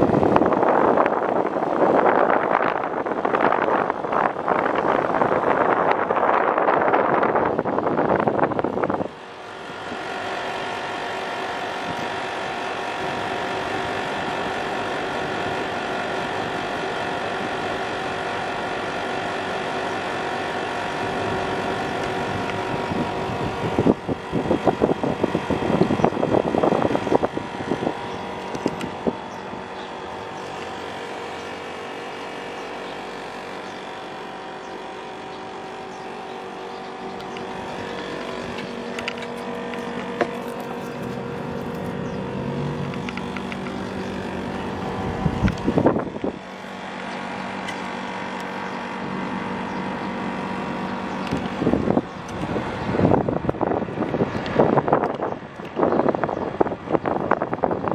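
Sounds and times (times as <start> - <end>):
air conditioner unit droning: 0.0 - 57.9.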